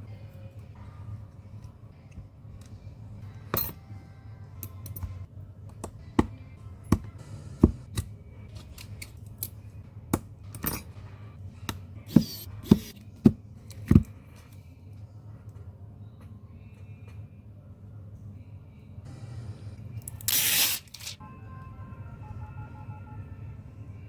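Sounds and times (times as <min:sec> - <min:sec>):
steady low hum: 0:00.0 - 0:20.2.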